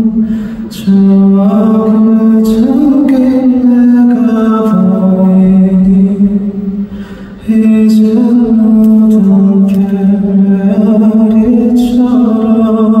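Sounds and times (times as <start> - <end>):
man singing long notes: 0.0 - 13.0.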